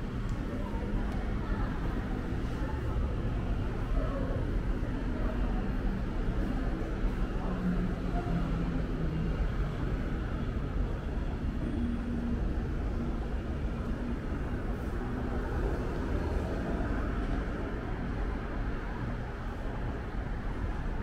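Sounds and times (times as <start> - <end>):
city street rumble: 0.0 - 21.0
faint voices: 0.0 - 21.0.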